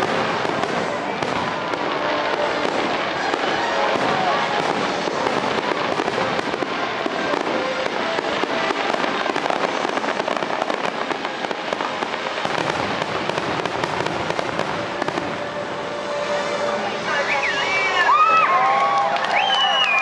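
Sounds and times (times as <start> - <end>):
fireworks launching and bursting: 0.0 - 20.0.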